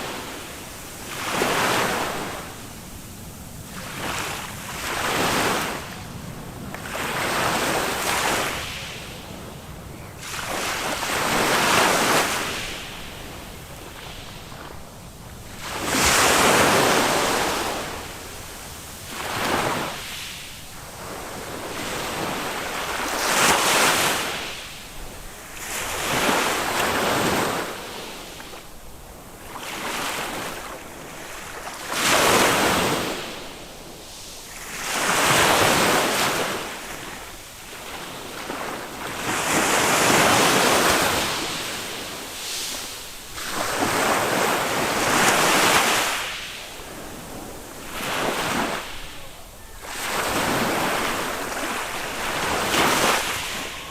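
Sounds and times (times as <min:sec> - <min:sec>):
small waves breaking on sand beach: 0:00.0 - 0:53.9.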